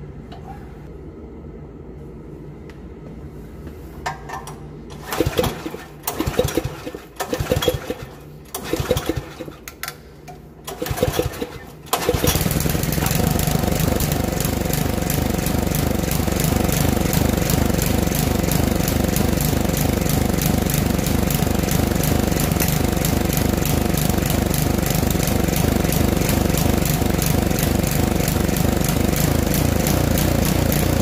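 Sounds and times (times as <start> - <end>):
mower petrol engine running: 5.0 - 9.6, 10.7 - 31.0.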